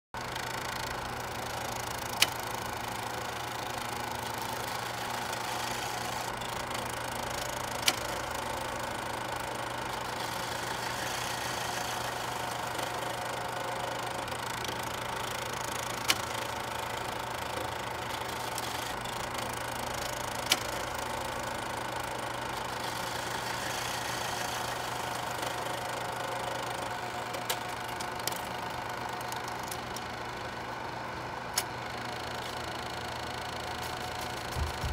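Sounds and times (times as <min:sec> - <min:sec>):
film projector whirring: 0:00.2 - 0:34.9.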